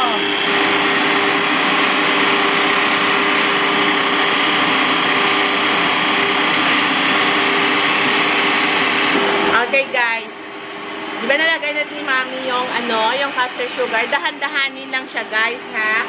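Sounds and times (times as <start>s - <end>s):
electric stand mixer running: 0.0s - 16.0s.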